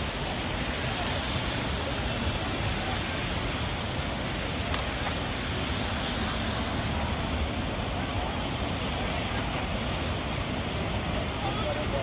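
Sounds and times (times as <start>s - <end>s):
car tyres on wet road: 0.0s - 12.0s
rain falling: 0.0s - 12.0s.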